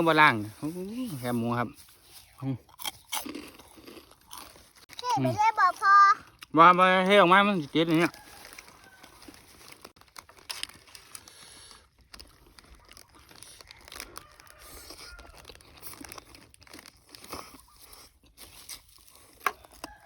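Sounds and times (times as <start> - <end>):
crispy food crunching: 0.0 - 20.0.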